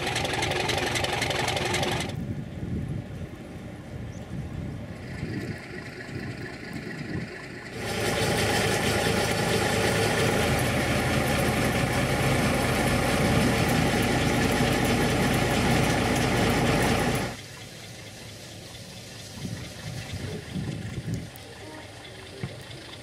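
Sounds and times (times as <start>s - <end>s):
diesel locomotive engine idling: 0.0s - 23.0s.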